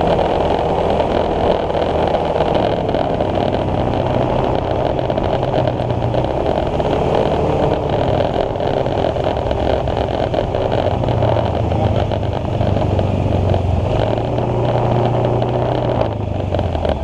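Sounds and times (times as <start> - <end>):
scooter engine running: 0.0 - 17.0
wind rush on microphone: 0.0 - 17.0.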